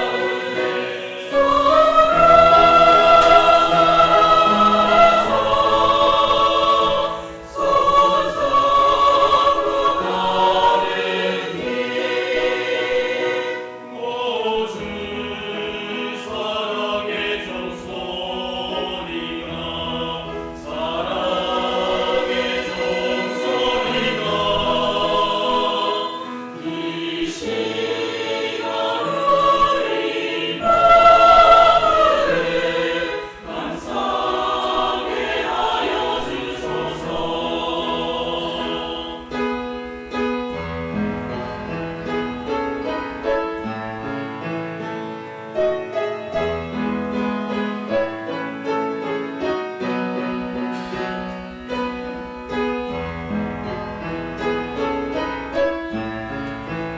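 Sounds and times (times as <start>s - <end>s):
church choir singing: 0.0s - 56.9s.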